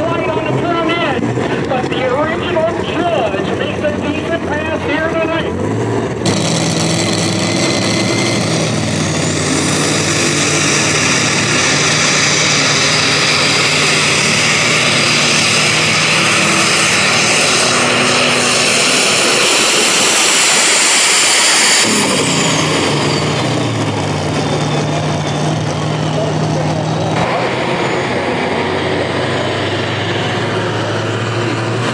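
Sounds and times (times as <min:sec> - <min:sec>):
tractor engine at full throttle: 0:00.0 - 0:31.9
turbo whine: 0:00.0 - 0:31.9.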